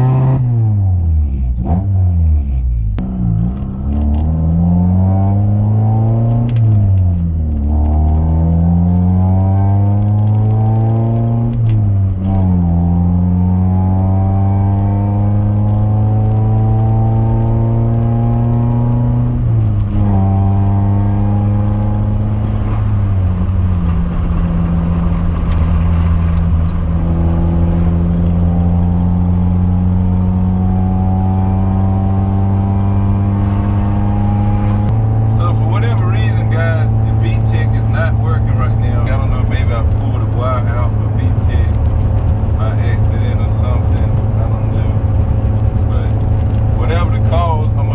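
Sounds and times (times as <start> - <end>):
car engine accelerating through gears: 0.0 - 47.9.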